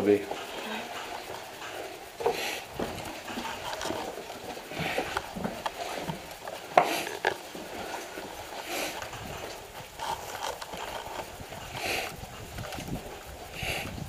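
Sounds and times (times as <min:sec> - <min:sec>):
knocks and clatter: 0:00.0 - 0:13.2.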